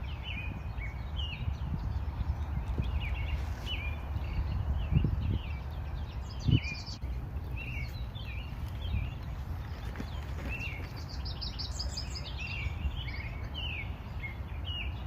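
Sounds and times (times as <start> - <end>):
steady low rumble: 0.0 - 14.6
songbirds chirping: 0.0 - 15.0.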